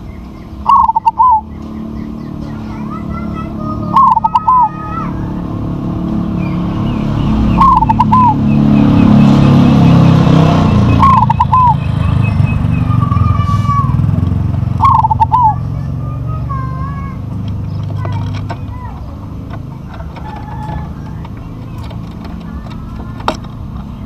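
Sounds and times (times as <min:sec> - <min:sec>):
dove cooing: 0:00.6 - 0:05.6, 0:07.2 - 0:14.0, 0:14.7 - 0:16.7, 0:18.0 - 0:24.0.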